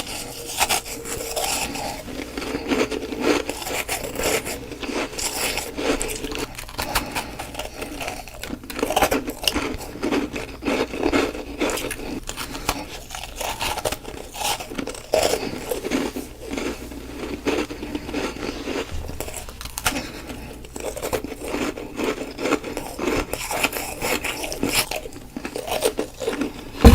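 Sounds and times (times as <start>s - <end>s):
ice being chewed and crunched: 0.0s - 26.9s.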